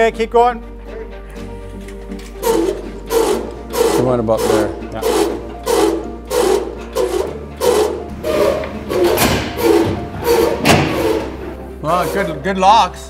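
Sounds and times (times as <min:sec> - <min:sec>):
music with steady beat: 0:00.6 - 0:12.4.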